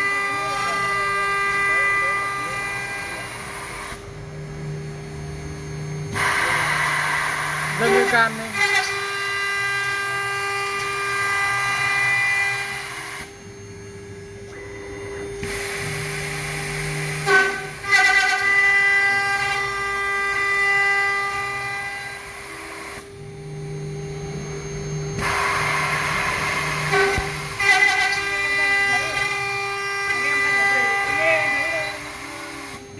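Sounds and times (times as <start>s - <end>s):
machine low hum: 0.0s - 32.9s
milling machine spindle whining: 0.0s - 32.9s.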